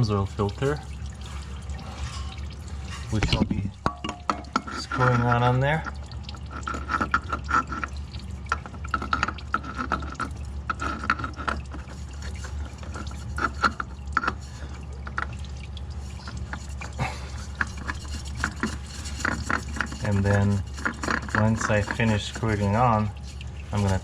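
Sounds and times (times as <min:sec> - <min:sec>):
oil dripping into drain pan: 0:00.0 - 0:24.0
steady low hum: 0:00.0 - 0:24.0
oil filter taps and scrapes: 0:00.2 - 0:24.0.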